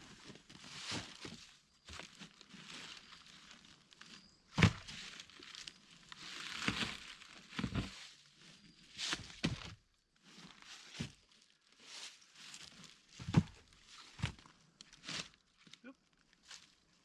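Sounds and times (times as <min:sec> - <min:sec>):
footsteps crunching on dry litter: 0:00.0 - 0:17.0.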